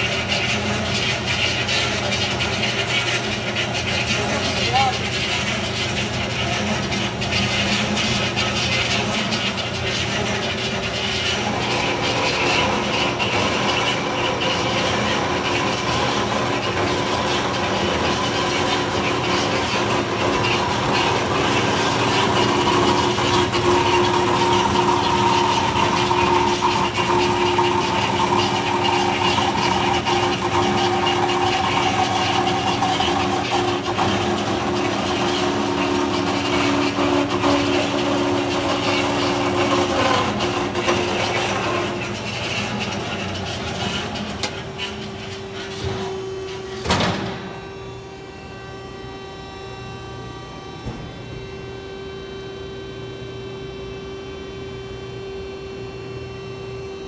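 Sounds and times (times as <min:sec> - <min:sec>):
power saw cutting steel: 0:00.0 - 0:47.9.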